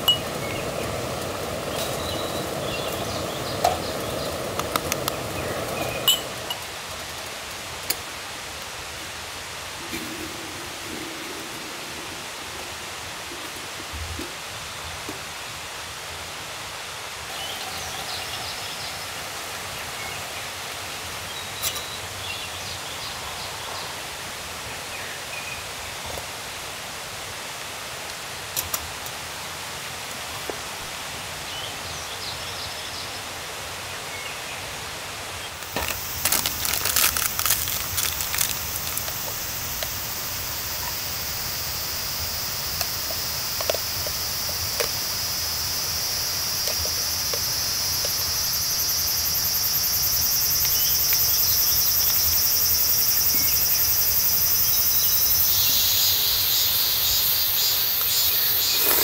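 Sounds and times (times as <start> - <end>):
insects chorus: 0.0 - 24.5, 35.4 - 59.0
soft hiss: 0.0 - 59.0.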